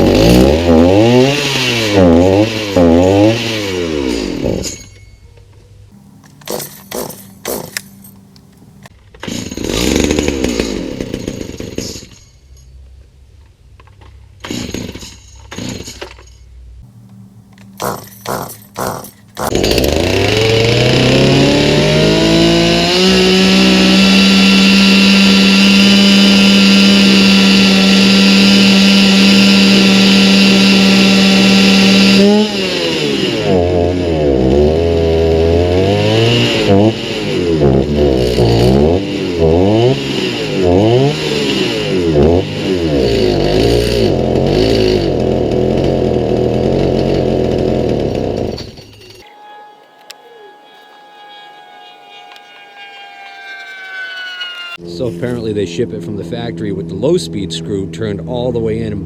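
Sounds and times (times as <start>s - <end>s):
chainsaw engine revving: 0.0s - 4.8s, 5.9s - 12.1s, 16.8s - 57.6s.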